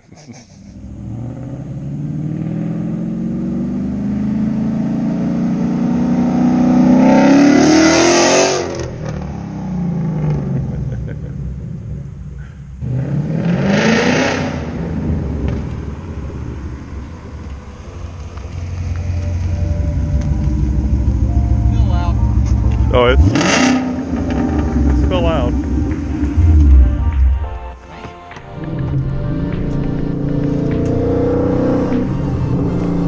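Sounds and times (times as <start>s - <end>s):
car engine revving: 0.5s - 33.0s.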